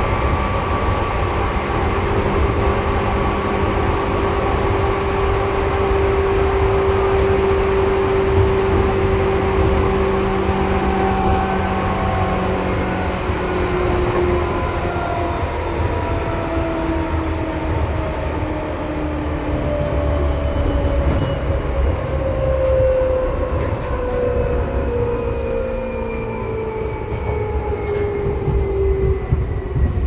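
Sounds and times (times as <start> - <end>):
train motor and gear whines: 0.0 - 30.0
train wheels rumbling on rail: 0.0 - 30.0.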